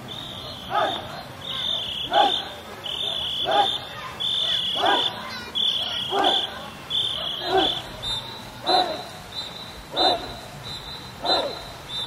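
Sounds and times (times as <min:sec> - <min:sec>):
whistle blown in a pattern: 0:00.0 - 0:12.0
crew shouting rhythmically: 0:00.2 - 0:12.0.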